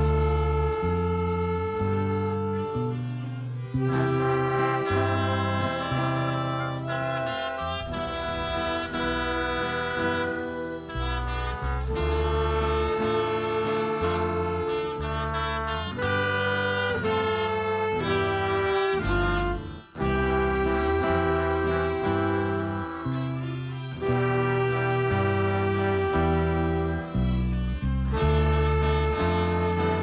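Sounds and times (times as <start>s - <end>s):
instrumental ensemble music: 0.0s - 30.0s.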